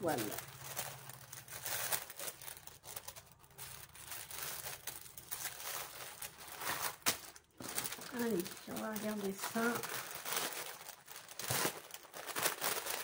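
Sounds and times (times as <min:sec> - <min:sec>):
plastic packaging crinkling: 0:00.0 - 0:13.0
sharp plastic crackle: 0:00.0 - 0:13.0.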